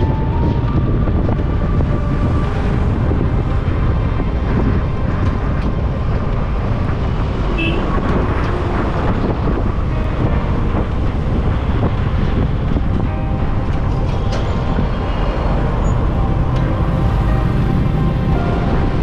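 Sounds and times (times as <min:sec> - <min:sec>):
car road and engine noise: 0:00.0 - 0:19.0
rumble of surrounding vehicles: 0:00.0 - 0:19.0.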